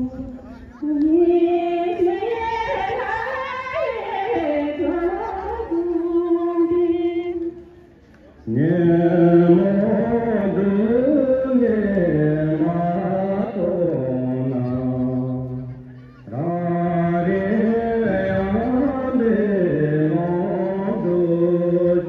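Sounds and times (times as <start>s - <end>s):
group folk singing: 0.8s - 7.7s, 8.4s - 15.7s, 16.3s - 22.0s.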